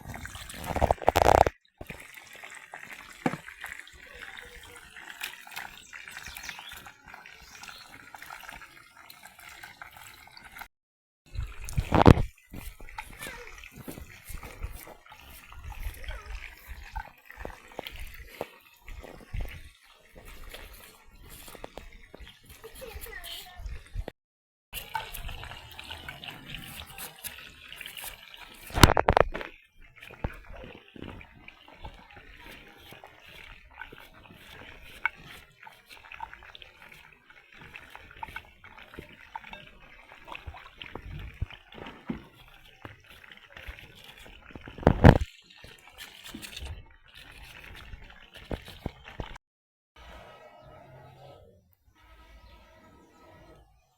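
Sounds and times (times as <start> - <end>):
water splashing and running: 0.0 - 10.7, 11.3 - 24.1, 24.8 - 49.4.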